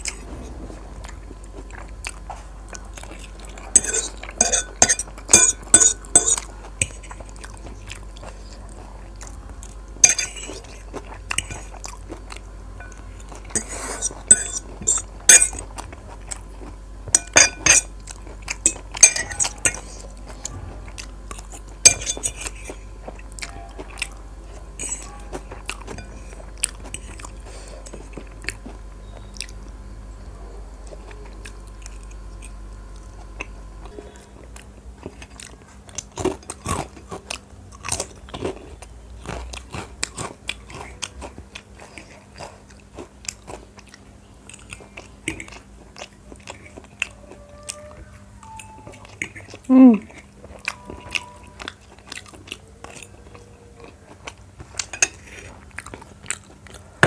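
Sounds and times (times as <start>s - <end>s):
chewing with crisp crunches: 0.0s - 57.0s.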